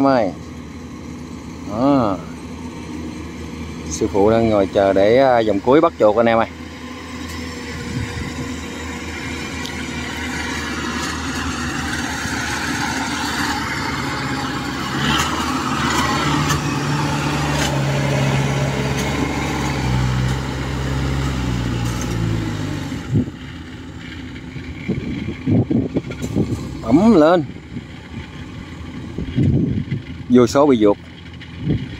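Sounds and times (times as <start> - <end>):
tracked cart engine running: 0.0 - 31.9.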